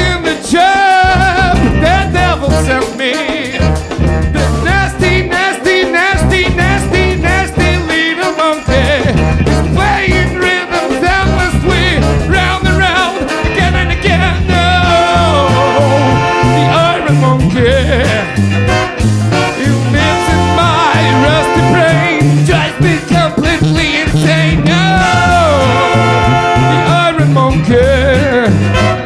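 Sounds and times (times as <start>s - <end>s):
brass band playing ska swing: 0.0s - 29.0s
drums: 0.0s - 29.0s
electric guitar: 0.0s - 29.0s.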